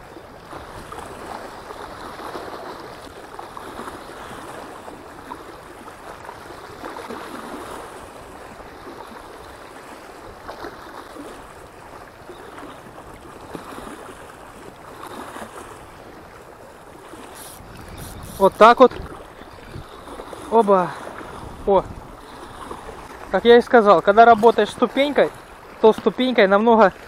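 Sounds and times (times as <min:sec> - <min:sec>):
small waves lapping on stony bank: 0:00.0 - 0:27.0.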